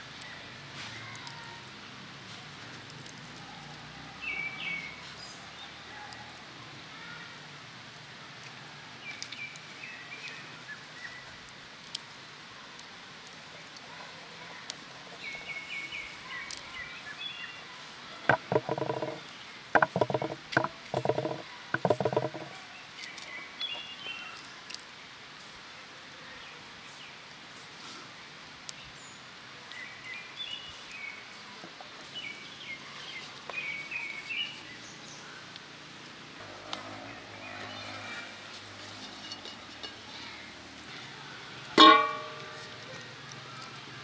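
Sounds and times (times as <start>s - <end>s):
small birds chirping: 0.0s - 7.4s, 8.4s - 12.0s, 12.6s - 25.2s, 28.7s - 44.0s.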